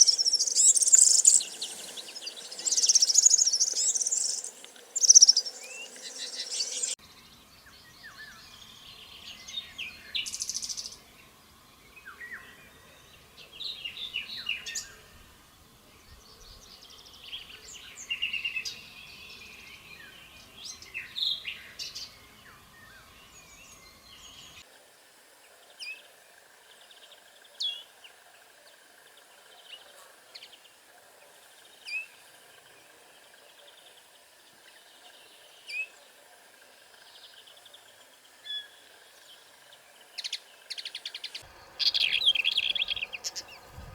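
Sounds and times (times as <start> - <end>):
wild birds singing and calling: 0.0 - 15.2, 16.0 - 43.9.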